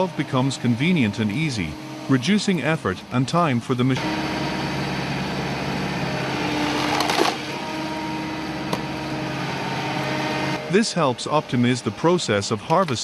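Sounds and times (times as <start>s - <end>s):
machine engine humming: 0.0s - 13.0s.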